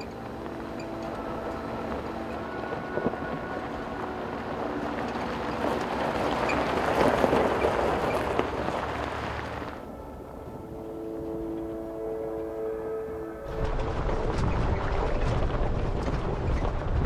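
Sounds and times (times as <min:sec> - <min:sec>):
vehicles driving on gravel: 0:00.0 - 0:17.0.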